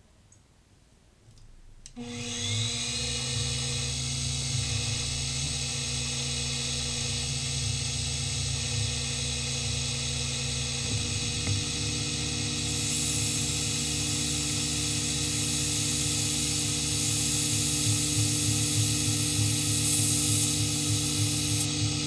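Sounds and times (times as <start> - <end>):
mill spindle motor whining: 2.0 - 22.0.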